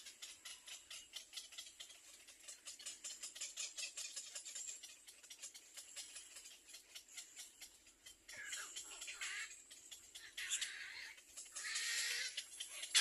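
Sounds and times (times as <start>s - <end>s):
nestling birds cheeping: 0.0s - 13.0s.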